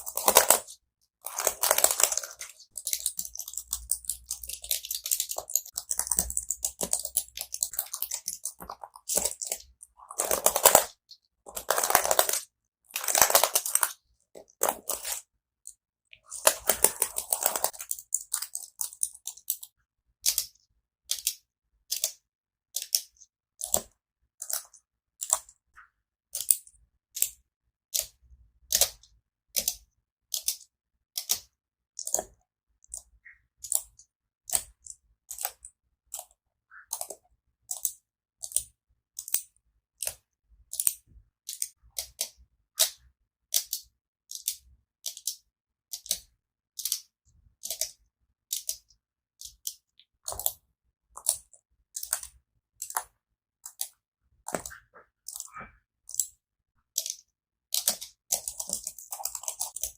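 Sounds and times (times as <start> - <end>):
keyboard keys clicking and tapping: 0.0 - 25.6, 26.3 - 59.9.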